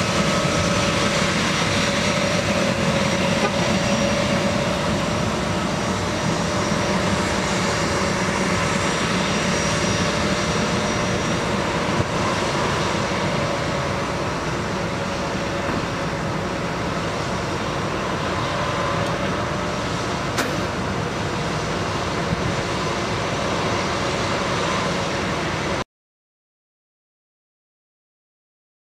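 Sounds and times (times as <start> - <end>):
jet engines rumbling and whining: 0.0 - 25.9.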